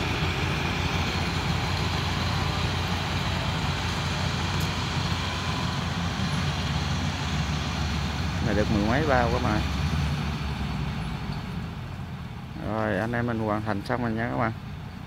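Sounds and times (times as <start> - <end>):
diesel engines droning: 0.0 - 15.0.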